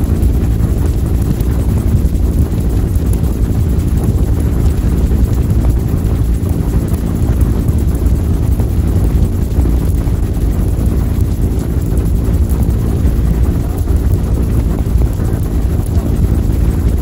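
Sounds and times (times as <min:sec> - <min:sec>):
helicopter rotor and engine drone: 0:00.0 - 0:17.0
wind noise on microphone: 0:00.0 - 0:17.0.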